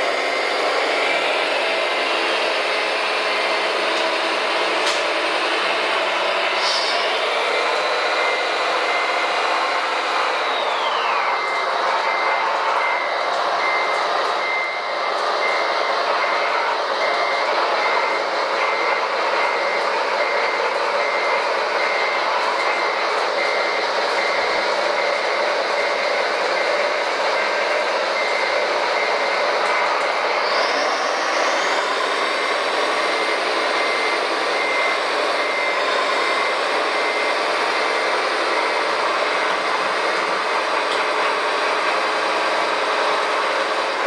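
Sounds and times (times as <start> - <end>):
electric motors whining: 0.0 - 44.0
reversing beeper: 0.0 - 44.0.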